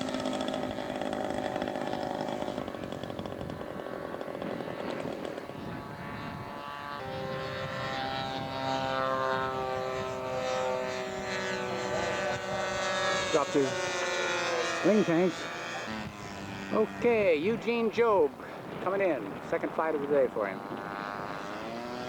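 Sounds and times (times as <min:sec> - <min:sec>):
model airplane passing by: 0:00.0 - 0:22.0
model airplane propeller engines: 0:00.0 - 0:22.0.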